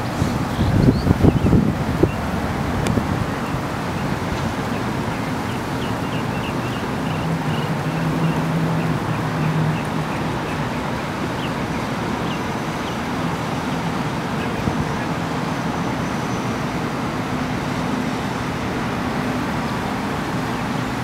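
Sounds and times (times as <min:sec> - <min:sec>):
diesel engines droning: 0:00.0 - 0:21.0
water noise: 0:00.0 - 0:21.0
wind: 0:00.0 - 0:21.0.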